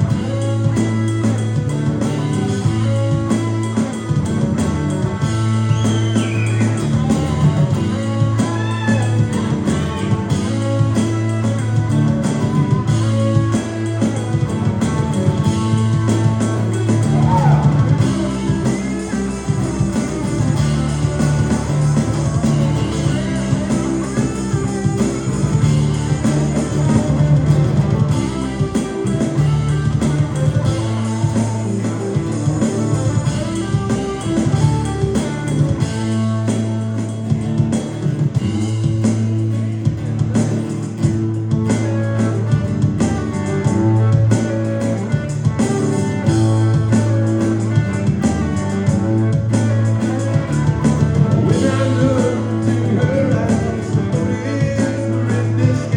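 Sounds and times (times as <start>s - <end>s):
bass guitar: 0.0s - 55.9s
drum kit: 0.0s - 55.9s
electric guitar: 0.0s - 55.9s.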